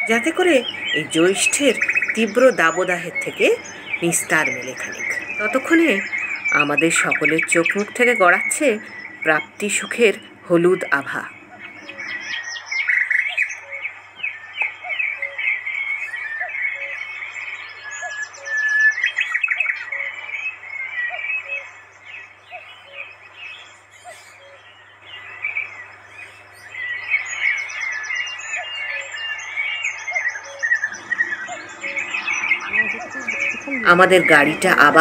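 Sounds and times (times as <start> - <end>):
birds chirping and calling: 0.0 - 35.0
rapid high bird trills: 0.0 - 35.0.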